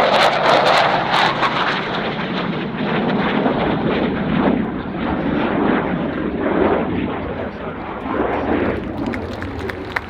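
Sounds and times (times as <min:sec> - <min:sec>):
fighter jet engine roar: 0:00.0 - 0:10.0.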